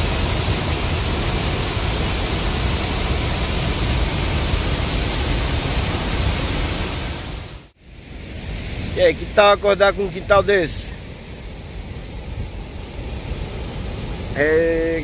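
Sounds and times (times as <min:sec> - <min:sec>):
loud rushing waterfall: 0:00.0 - 0:15.0.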